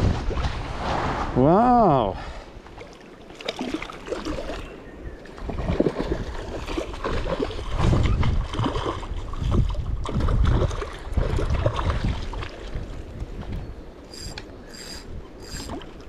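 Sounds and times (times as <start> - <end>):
wind on microphone: 0.0 - 2.4, 4.6 - 16.0.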